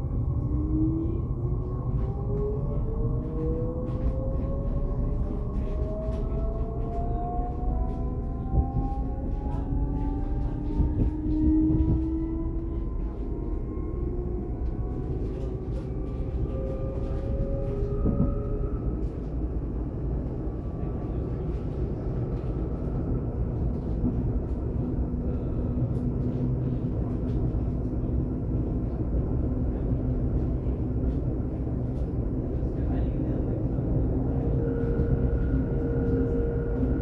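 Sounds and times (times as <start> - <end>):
train rolling rumble: 0.0 - 37.0.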